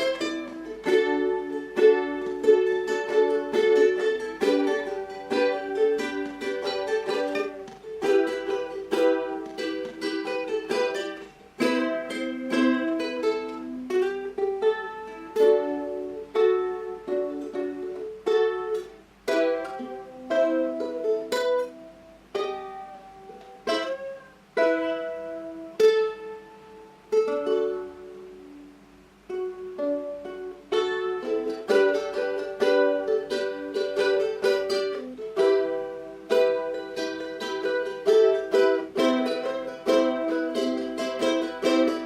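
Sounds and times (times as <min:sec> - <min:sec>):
ukulele playing slow ballad: 0:00.0 - 0:42.0.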